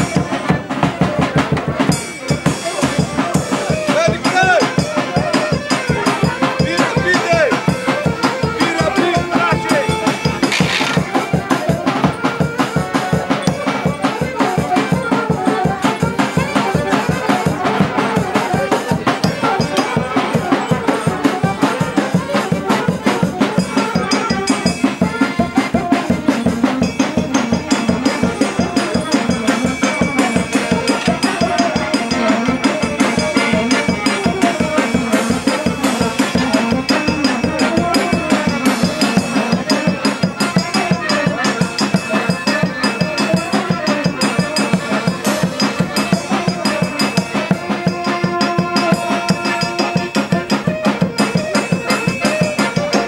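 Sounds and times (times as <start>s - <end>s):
bass drum and cymbal beat: 0.0s - 53.0s
piano accordion playing: 3.6s - 53.0s.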